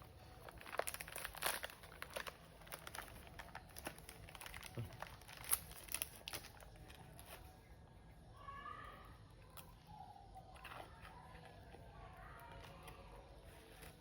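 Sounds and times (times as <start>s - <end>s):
food crinkling and rustling: 0.0s - 7.8s, 10.3s - 14.0s.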